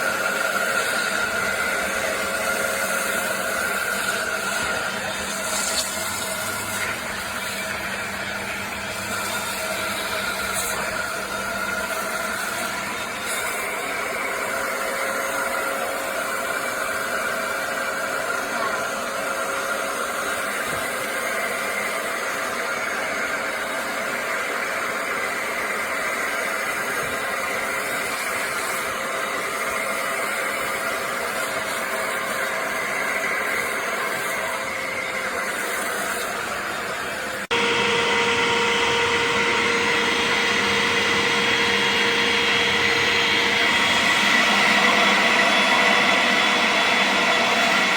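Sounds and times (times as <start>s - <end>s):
upholstery cleaner motor whirring: 0.0s - 47.9s.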